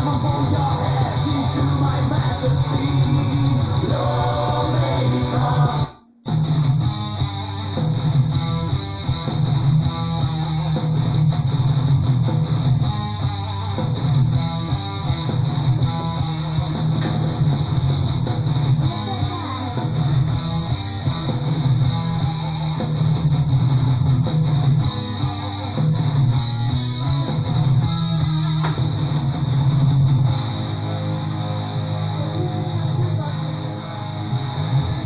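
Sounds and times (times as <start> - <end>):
bass guitar: 0.0 - 35.0
distorted electric guitars: 0.0 - 35.0
power metal band playing: 0.0 - 35.0.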